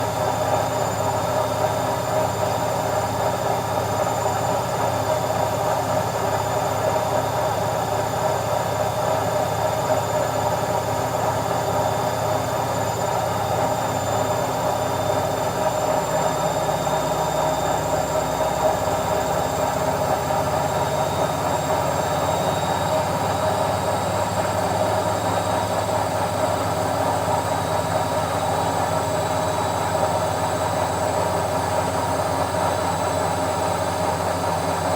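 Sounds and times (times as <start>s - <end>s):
washing machine rumble and hum: 0.0s - 34.9s.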